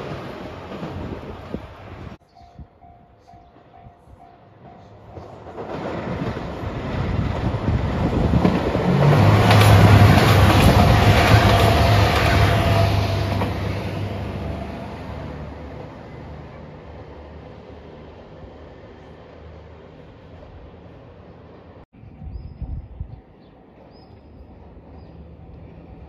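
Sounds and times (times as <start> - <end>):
train wheels rumbling on rail: 0.0 - 20.9
diesel train engine drone: 0.0 - 21.8, 23.6 - 26.0.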